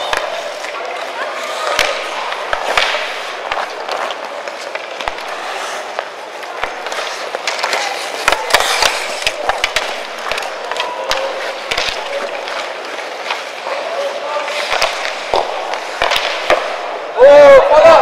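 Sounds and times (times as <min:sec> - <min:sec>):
hockey sticks clacking: 0:00.0 - 0:18.0
skates scraping on ice: 0:00.0 - 0:18.0.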